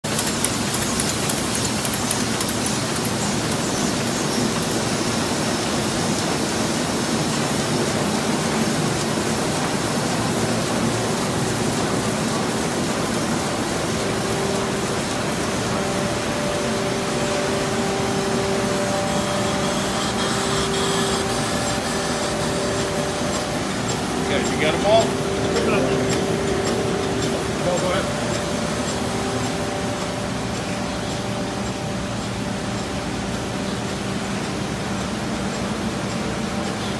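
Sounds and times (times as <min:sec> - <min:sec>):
printing press running: 0:00.0 - 0:36.9
faint hum: 0:03.2 - 0:36.9.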